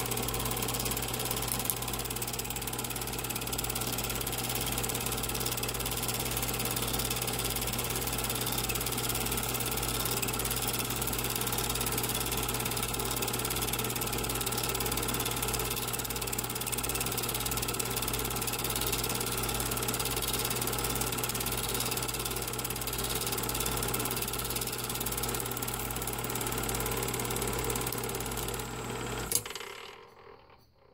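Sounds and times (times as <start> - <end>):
film projector whirring: 0.0 - 30.6.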